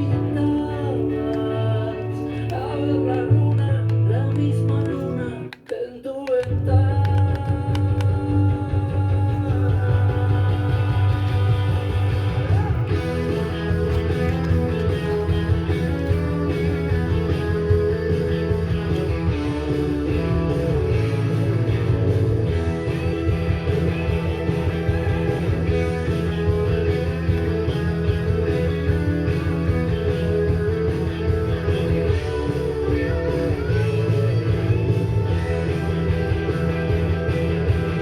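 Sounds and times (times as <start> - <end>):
rock music with guitar: 0.0 - 5.7, 6.4 - 38.0.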